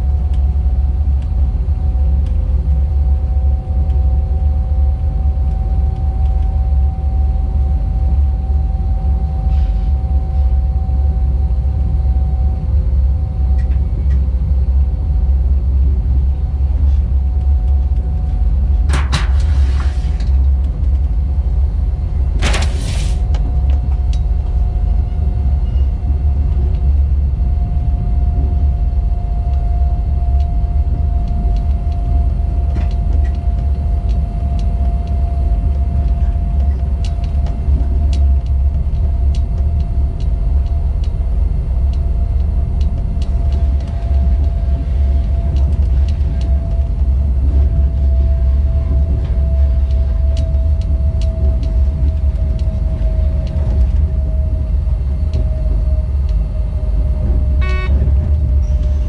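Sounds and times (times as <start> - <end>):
electric locomotive rumble: 0.0 - 59.0
locomotive whine: 0.0 - 59.0.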